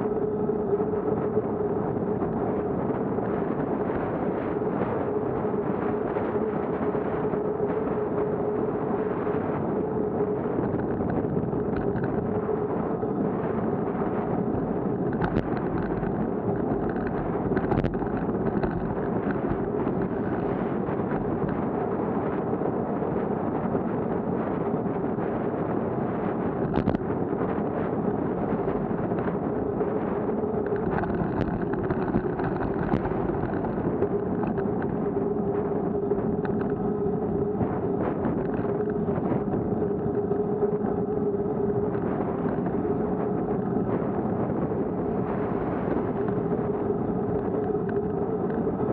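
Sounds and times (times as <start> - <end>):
low hum: 0.0 - 48.9
road noise: 0.0 - 48.9
wind rush: 0.0 - 48.9.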